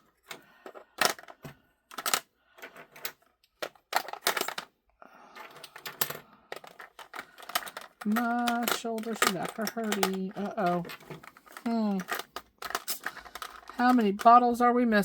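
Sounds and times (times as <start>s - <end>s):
plastic pieces clicking and clattering: 0.0s - 15.0s.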